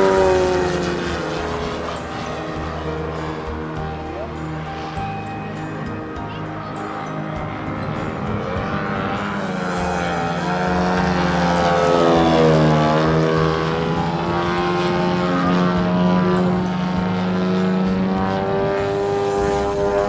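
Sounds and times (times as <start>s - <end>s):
propeller plane engine: 0.0s - 20.0s.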